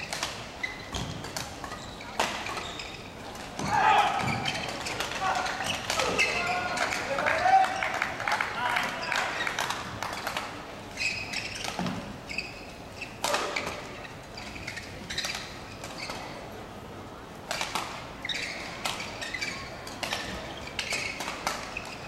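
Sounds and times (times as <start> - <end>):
shoes squeaking on court: 0.0 - 8.1, 8.7 - 16.6, 17.5 - 22.0.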